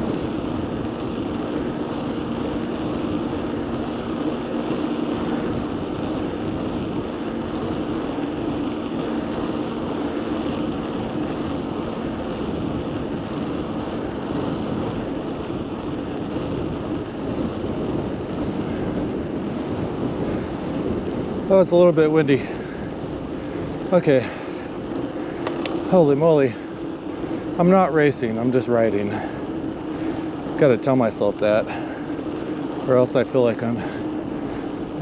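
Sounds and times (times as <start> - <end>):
wind rushing over microphone: 0.0 - 35.0.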